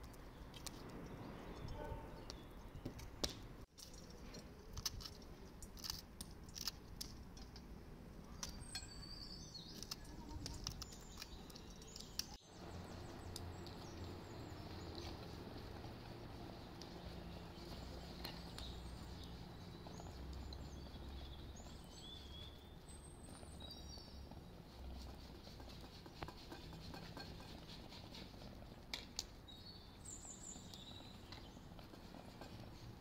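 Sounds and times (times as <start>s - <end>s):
small birds chirping: 0.0s - 7.6s, 8.2s - 33.0s
low steady background rumble: 3.4s - 33.0s.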